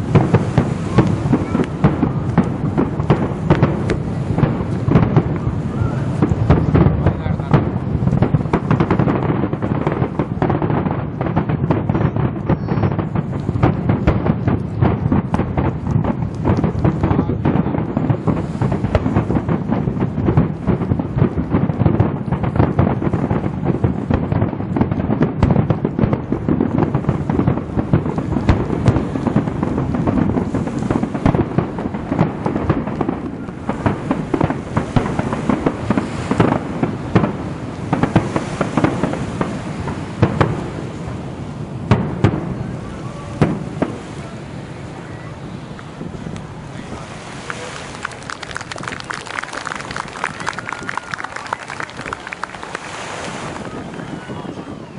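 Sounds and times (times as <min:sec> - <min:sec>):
low rumbling echoes: 0:00.0 - 0:47.7.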